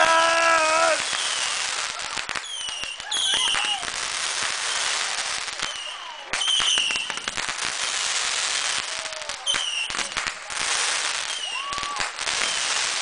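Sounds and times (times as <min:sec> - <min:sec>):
firework cake pops and crackling: 0:00.0 - 0:13.0.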